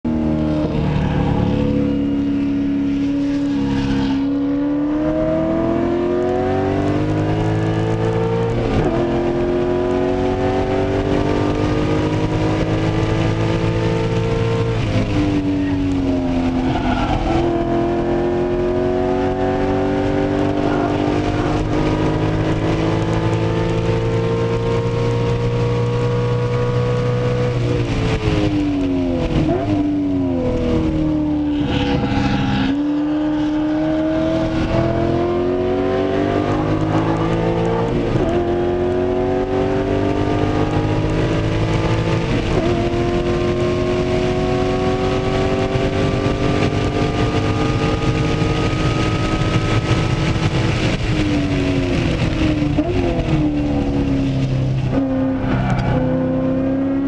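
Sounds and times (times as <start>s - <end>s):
race car engine from inside: 0.0s - 57.0s.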